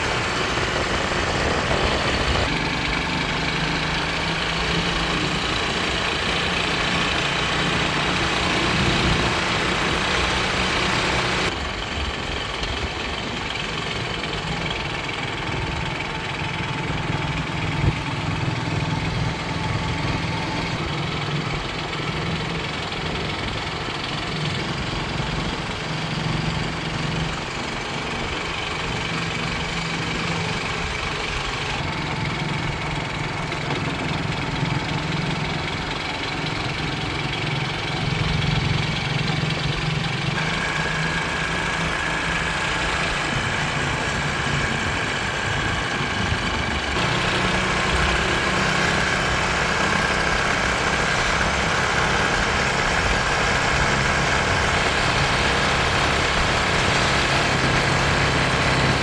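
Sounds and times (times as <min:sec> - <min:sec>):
small motorcycle engine running: 0:00.0 - 0:59.0.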